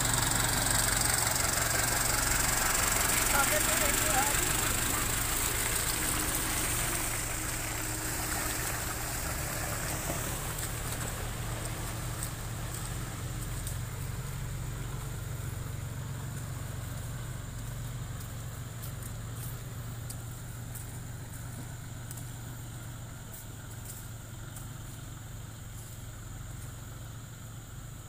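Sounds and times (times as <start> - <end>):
tractor engine droning: 0.0 - 28.0.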